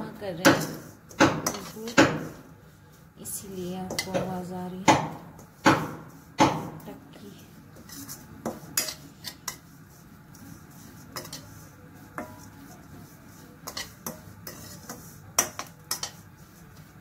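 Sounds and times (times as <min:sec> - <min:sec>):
metal spoon scraping a pan: 0:00.3 - 0:02.5, 0:03.2 - 0:04.5, 0:05.2 - 0:17.0.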